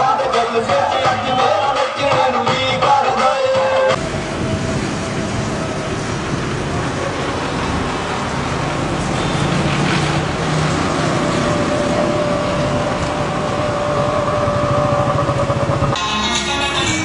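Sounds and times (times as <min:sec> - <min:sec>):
car engines and road noise: 0:00.0 - 0:17.0.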